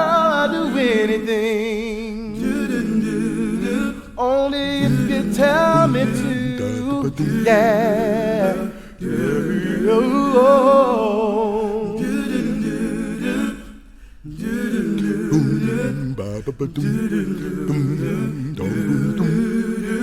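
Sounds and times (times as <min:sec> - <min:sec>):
vocal group humming harmonies: 0:00.0 - 0:20.0.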